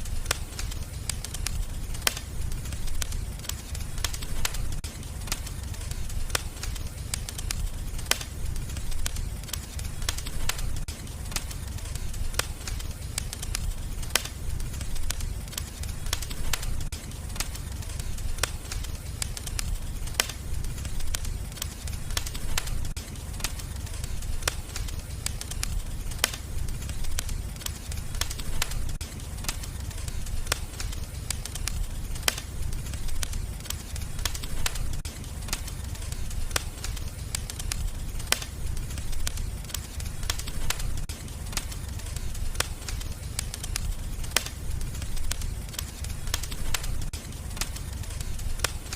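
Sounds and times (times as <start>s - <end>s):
low rumble of flames: 0.0s - 48.9s
wood fire crackling and popping: 0.0s - 48.9s.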